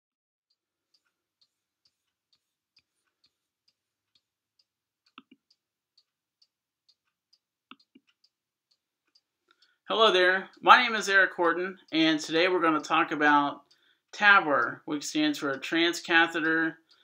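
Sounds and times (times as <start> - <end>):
faint even ticking: 0.5 - 17.0.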